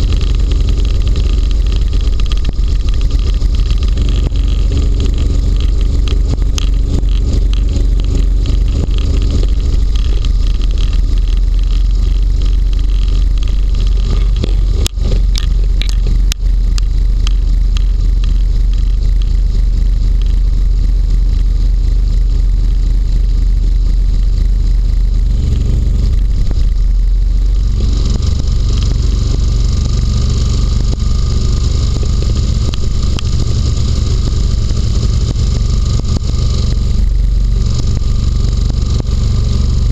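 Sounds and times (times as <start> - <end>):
hovercraft engine and fan drone: 0.0 - 39.9.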